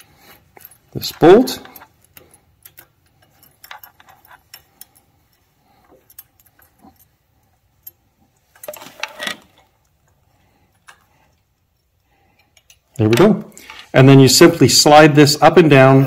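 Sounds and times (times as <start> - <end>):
small metallic clicks: 0.3 - 13.9
bolt rattling: 0.4 - 13.6.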